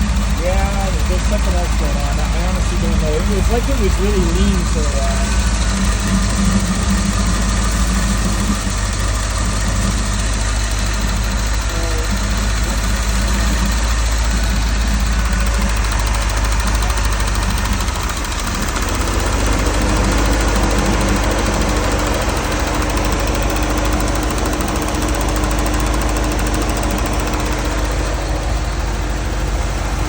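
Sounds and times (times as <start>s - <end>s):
car engine idling roughly: 0.0s - 30.0s.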